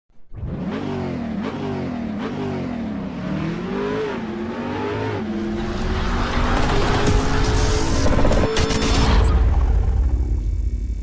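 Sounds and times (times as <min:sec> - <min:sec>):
engine revving: 0:00.2 - 0:10.5.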